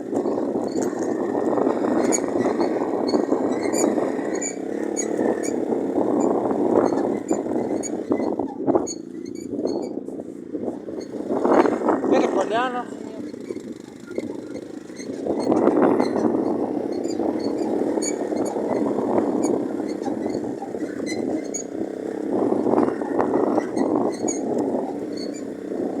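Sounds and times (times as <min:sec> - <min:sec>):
light ticking rattles: 0:00.0 - 0:10.0, 0:10.9 - 0:26.0
moped engine running: 0:00.0 - 0:26.0
wind rushing on microphone: 0:00.0 - 0:26.0.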